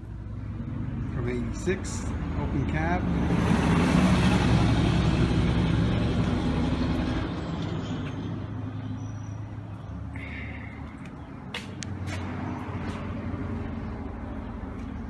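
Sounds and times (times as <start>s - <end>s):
large diesel engine humming: 0.0s - 15.0s.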